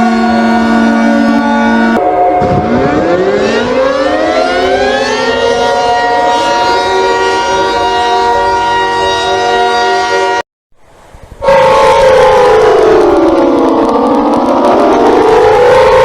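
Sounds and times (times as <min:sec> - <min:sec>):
emergency alarm siren winding up: 0:00.0 - 0:09.7, 0:11.4 - 0:16.0.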